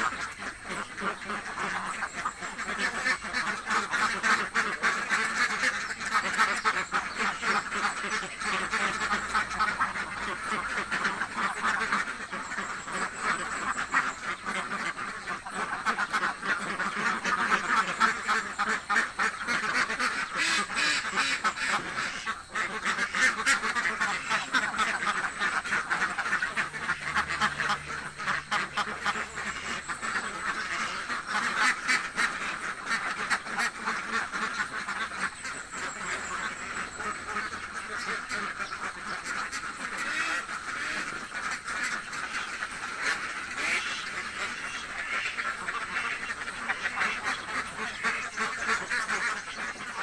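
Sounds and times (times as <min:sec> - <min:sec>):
ducks quacking: 0:00.0 - 0:50.0.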